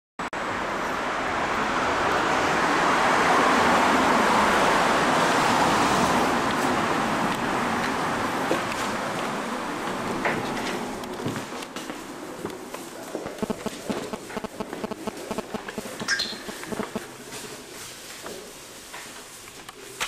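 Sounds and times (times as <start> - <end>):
road traffic rush: 0.2 - 18.8.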